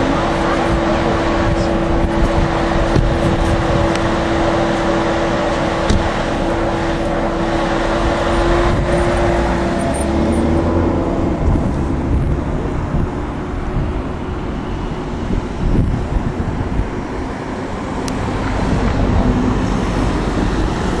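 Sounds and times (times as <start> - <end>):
low drone: 0.0 - 21.0
motor vehicle hum: 0.0 - 21.0.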